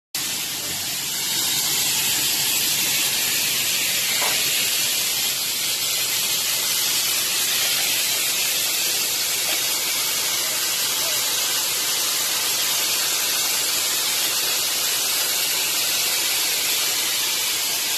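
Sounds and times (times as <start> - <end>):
loud high-pitched hiss: 0.2 - 17.9.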